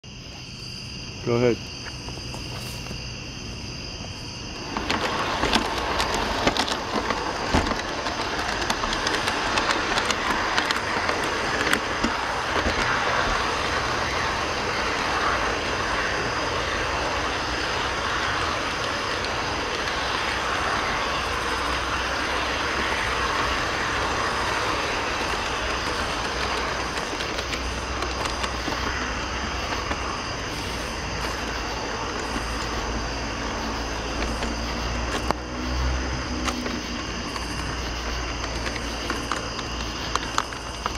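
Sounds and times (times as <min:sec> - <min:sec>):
crickets chirping: 0:00.0 - 0:40.9
model train wheels rolling on rail: 0:01.2 - 0:40.9
clicks of train wheels: 0:04.6 - 0:40.9.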